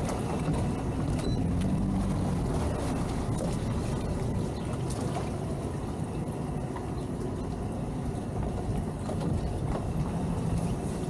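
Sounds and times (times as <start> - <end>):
outboard motors rumbling: 0.0 - 11.0.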